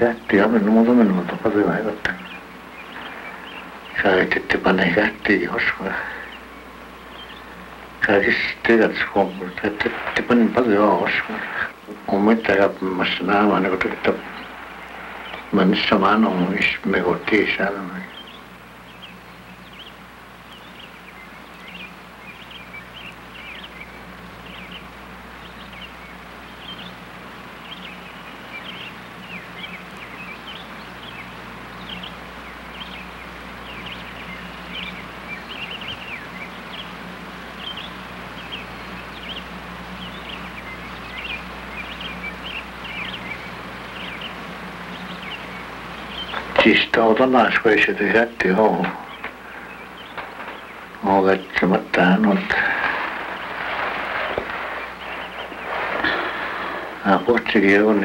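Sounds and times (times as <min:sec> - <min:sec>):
birds chirping: 0:00.0 - 0:58.0
steady low hum: 0:00.0 - 0:58.0.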